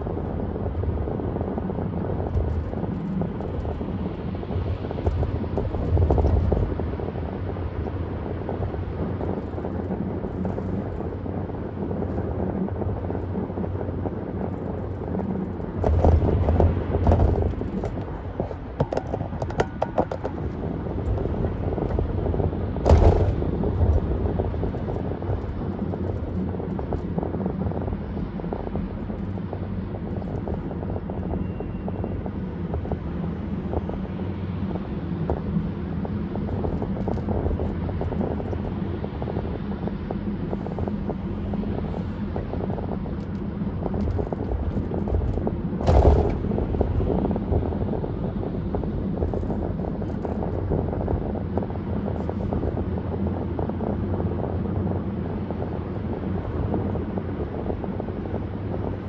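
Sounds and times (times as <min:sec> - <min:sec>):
tyre and wind road noise: 0:00.0 - 0:59.0.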